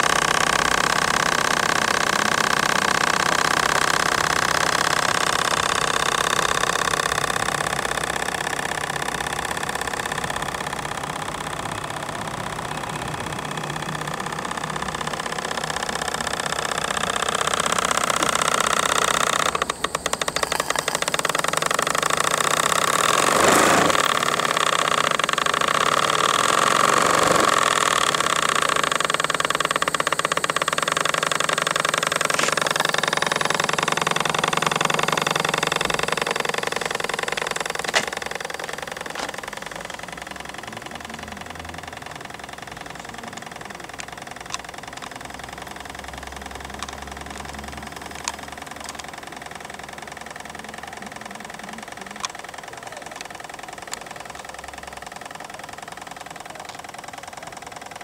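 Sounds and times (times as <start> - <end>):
model steam engine beating: 0.0 - 58.0.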